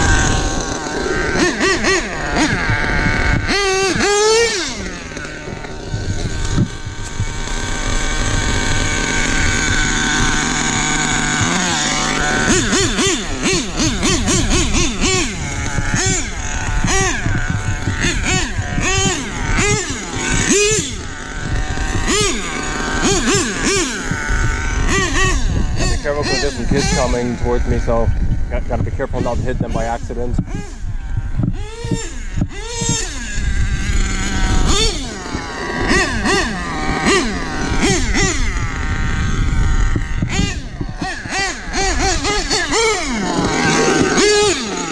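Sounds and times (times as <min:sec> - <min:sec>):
nitro engine revving: 0:00.0 - 0:44.9.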